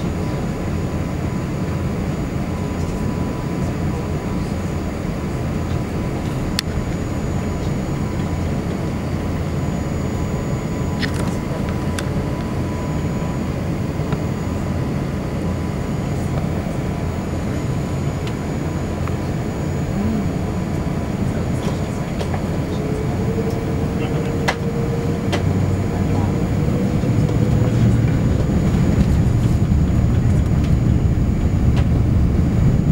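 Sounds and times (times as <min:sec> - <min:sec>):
aircraft cabin rumble: 0:00.0 - 0:32.9
faint engine whine: 0:00.0 - 0:32.9
low tone: 0:02.3 - 0:32.9.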